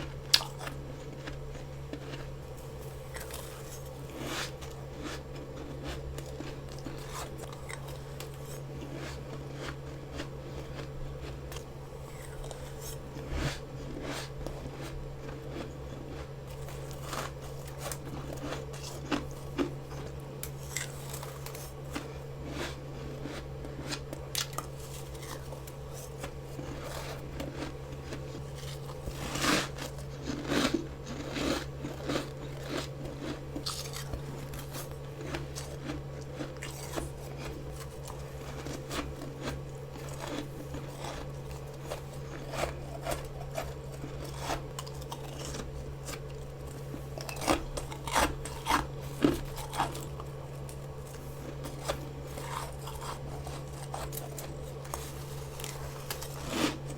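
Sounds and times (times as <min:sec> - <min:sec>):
steady low hum: 0:00.0 - 0:56.9
crunching bites of frost: 0:00.3 - 0:56.9.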